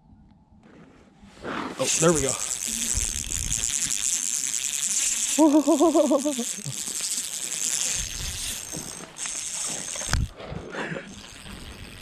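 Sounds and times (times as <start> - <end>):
fishing reel buzzing: 1.8 - 10.4, 11.0 - 12.0.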